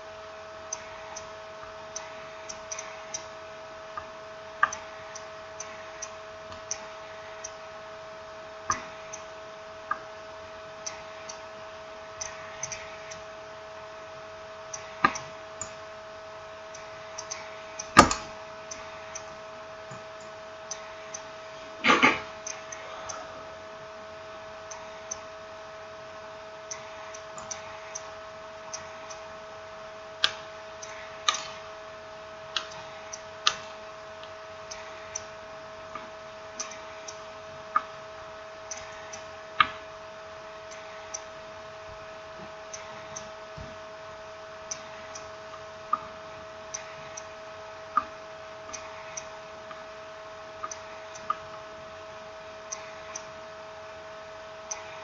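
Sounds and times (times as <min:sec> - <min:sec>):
steady electrical hum: 0:00.0 - 0:55.0.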